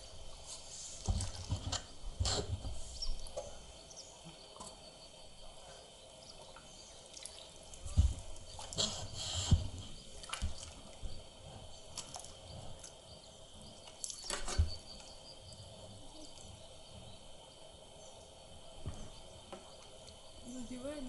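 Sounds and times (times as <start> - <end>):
water dripping and lapping: 0.0 - 21.0.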